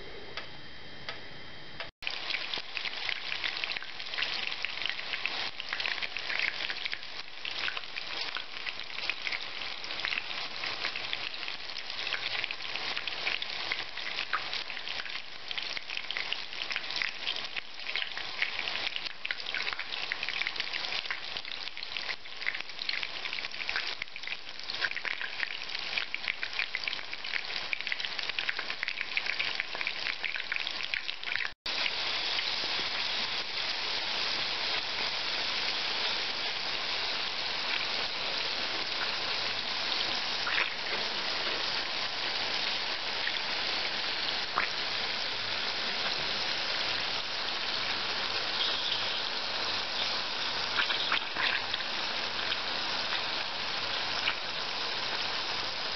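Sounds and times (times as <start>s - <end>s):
food sizzling in a frying pan: 2.0s - 55.9s.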